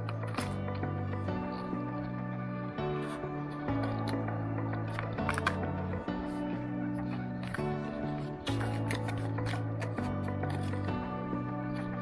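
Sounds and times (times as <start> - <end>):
background music sustained chords: 0.0 - 12.0.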